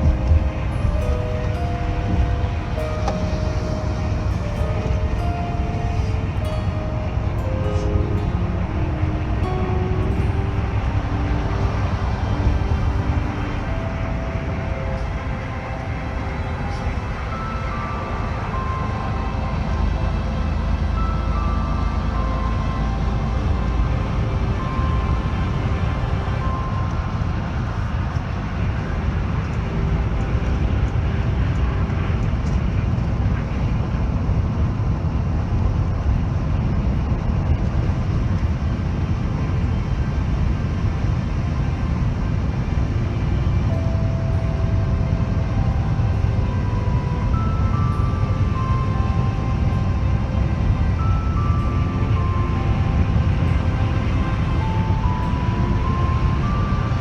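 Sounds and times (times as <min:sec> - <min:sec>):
soft melody of held notes: 0:00.0 - 0:35.2, 0:37.8 - 0:57.0
vehicle rumbling in motion: 0:00.0 - 0:57.0.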